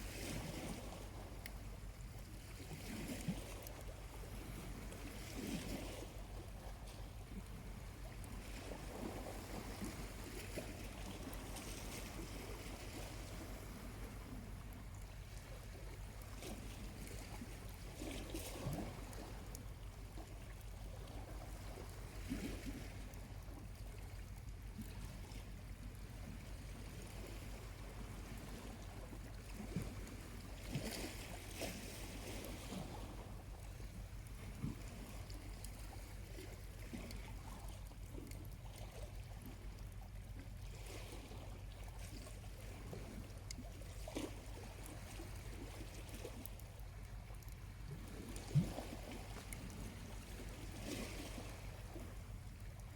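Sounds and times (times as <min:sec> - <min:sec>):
small waves lapping on beach: 0:00.0 - 0:52.9.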